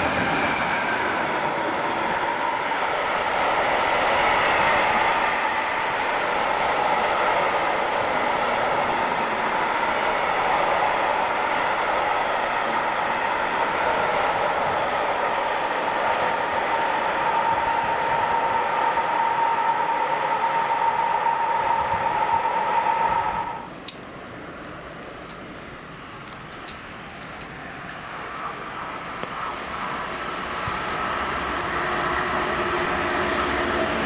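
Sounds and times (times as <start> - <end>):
train wheels rushing on rail: 0.0 - 34.0.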